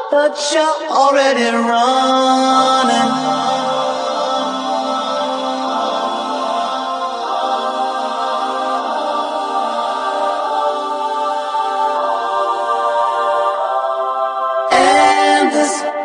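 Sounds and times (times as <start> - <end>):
louder vocal line: 0.0 - 16.0
wordless backing vocals: 0.0 - 16.0.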